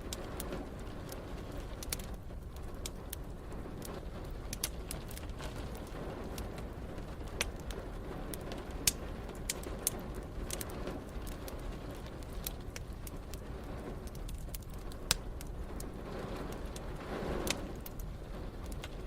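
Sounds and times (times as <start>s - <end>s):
rain: 0.0s - 19.0s
wood fire crackling and popping: 0.0s - 19.0s.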